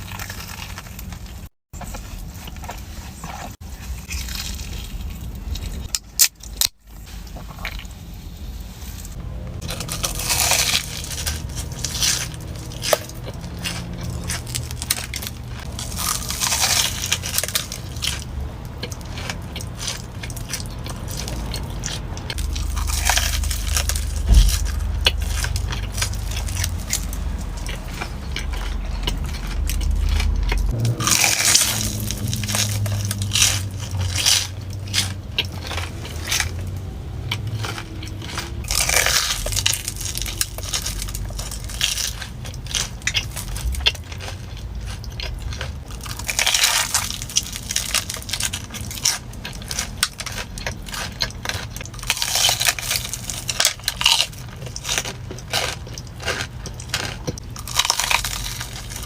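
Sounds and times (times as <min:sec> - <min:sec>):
crunchy bites: 0:00.0 - 0:08.0, 0:09.6 - 0:59.0
crackling chewing: 0:00.0 - 0:59.0.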